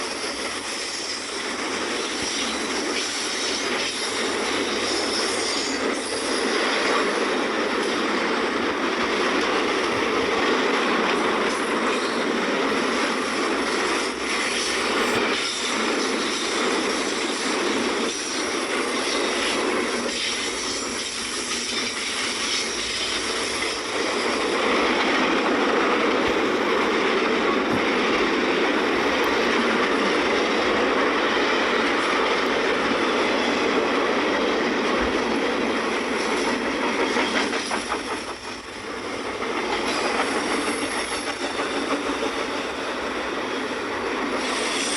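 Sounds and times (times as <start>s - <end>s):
freight train wheels rushing on rail: 0.0s - 44.9s.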